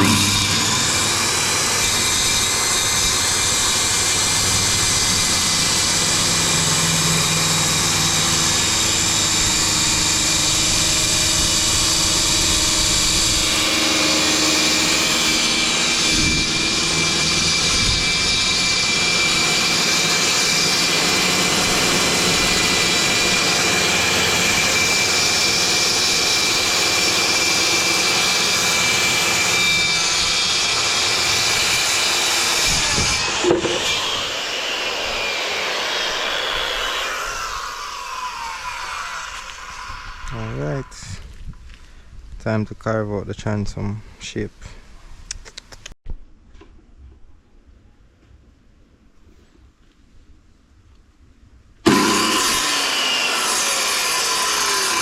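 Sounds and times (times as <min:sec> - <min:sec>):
electric power tool whining: 0:00.0 - 0:41.3, 0:51.8 - 0:55.0.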